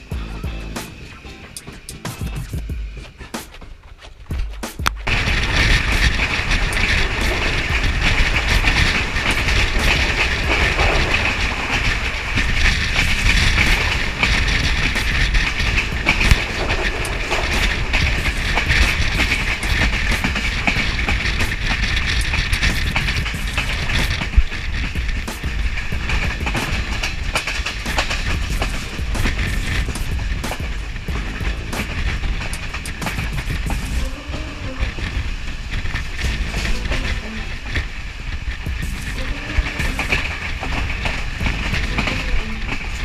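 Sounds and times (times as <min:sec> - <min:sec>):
train rumbling and rattling: 0:00.0 - 0:43.0
wheels clicking over rail joints: 0:00.0 - 0:43.0.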